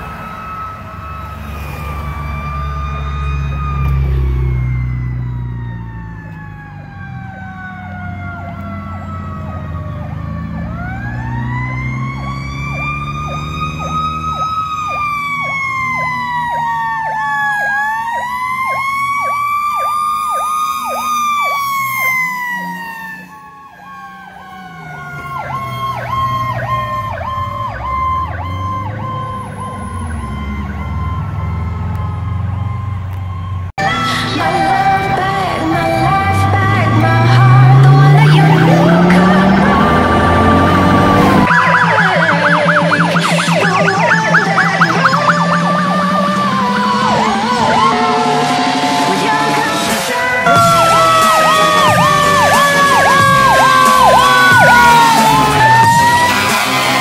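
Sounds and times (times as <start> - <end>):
low vehicle rumble: 0.0 - 57.0
rapidly cycling siren: 0.0 - 57.0
slow wailing siren: 0.0 - 57.0.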